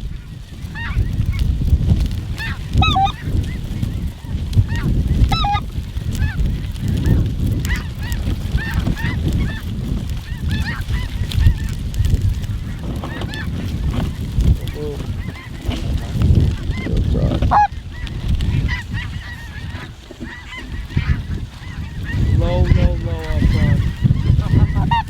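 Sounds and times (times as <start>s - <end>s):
geese honking: 0.2s - 25.0s.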